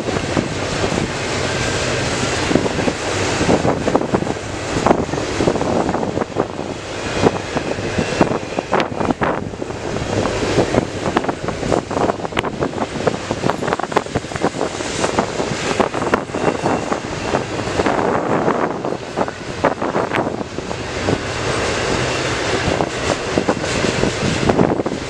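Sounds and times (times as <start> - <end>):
train wheels rumbling on rail: 0.0 - 25.0
wheels clacking over rail joints: 0.0 - 25.0.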